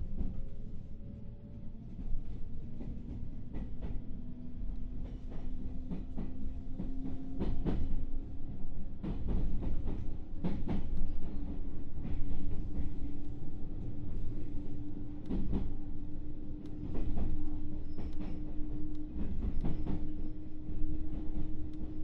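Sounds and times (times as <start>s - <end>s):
train wheel and track rumble: 0.0s - 22.0s.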